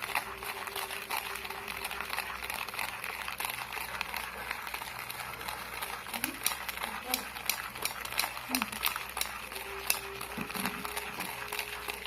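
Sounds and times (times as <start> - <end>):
utensil scraping whipped coffee: 0.0 - 12.0.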